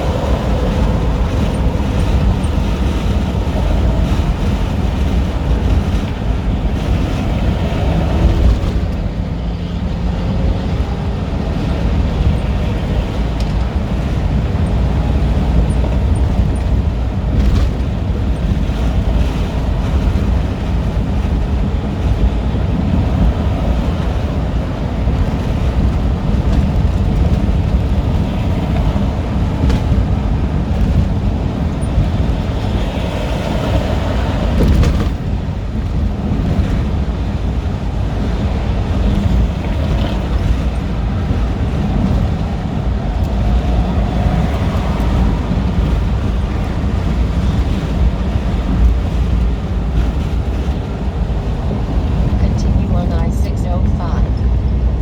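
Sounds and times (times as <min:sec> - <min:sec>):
truck engine and road noise: 0:00.0 - 0:55.0
wind rumble: 0:00.0 - 0:55.0.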